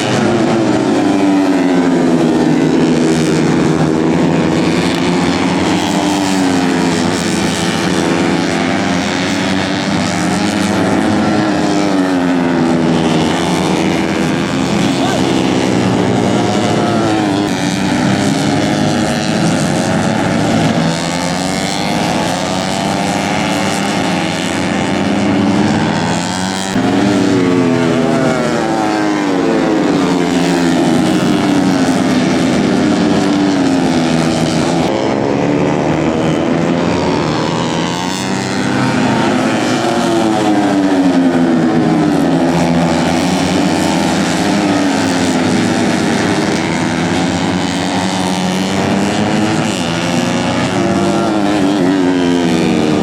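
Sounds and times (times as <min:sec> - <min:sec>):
race motorcycles revving: 0:00.0 - 0:53.0.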